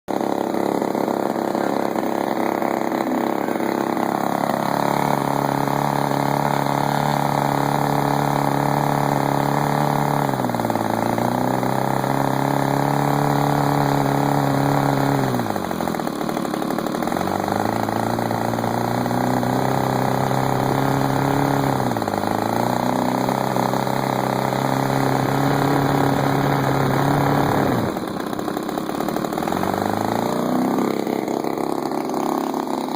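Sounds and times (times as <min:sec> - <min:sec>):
two-stroke engine running: 0:00.1 - 0:32.9.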